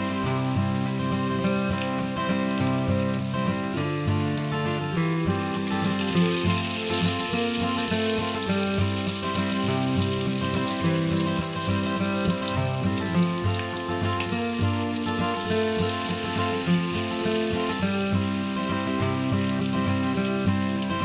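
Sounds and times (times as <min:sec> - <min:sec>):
fish sizzling in hot oil: 0:00.0 - 0:21.0
instrumental background music: 0:00.0 - 0:21.0.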